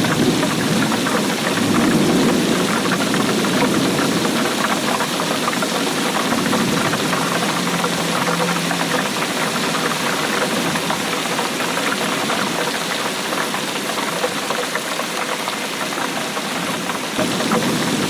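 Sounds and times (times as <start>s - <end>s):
steady rain pattering: 0.0s - 18.0s.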